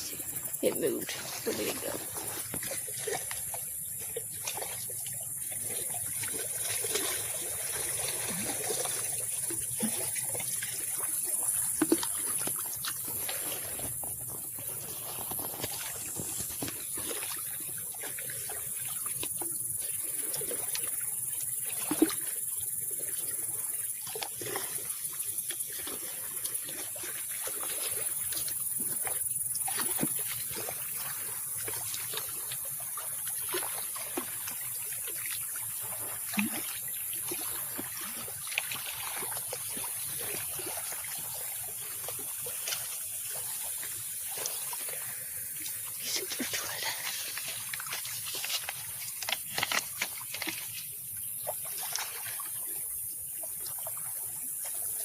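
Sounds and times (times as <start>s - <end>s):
lake waves lapping: 0.0s - 55.0s
small splashes: 0.0s - 55.0s.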